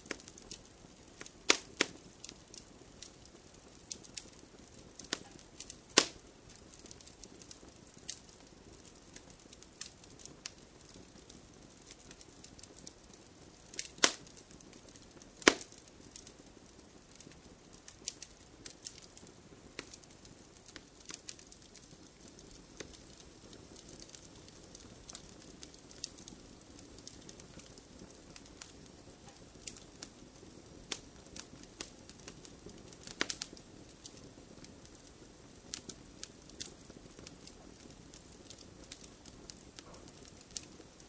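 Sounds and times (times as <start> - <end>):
fire crackling and popping: 0.0 - 41.0
flames rushing: 0.0 - 41.0.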